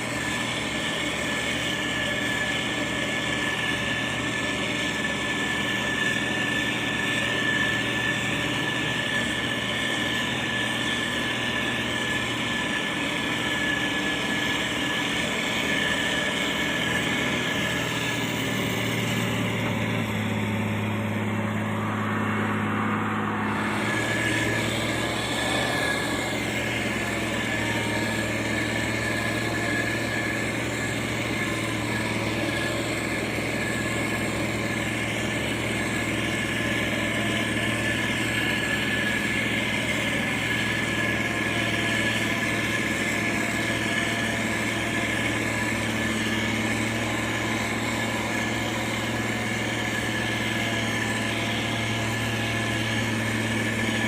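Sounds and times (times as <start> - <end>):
diesel engine hum: 0.0 - 54.0
high whine: 0.0 - 54.0.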